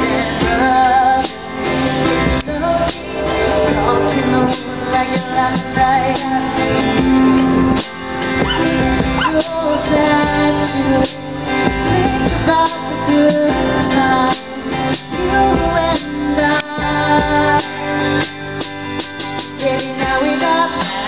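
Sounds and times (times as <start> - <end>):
woman singing: 0.0 - 7.9, 8.6 - 18.3, 19.5 - 21.0
strummed acoustic guitars: 0.0 - 21.0.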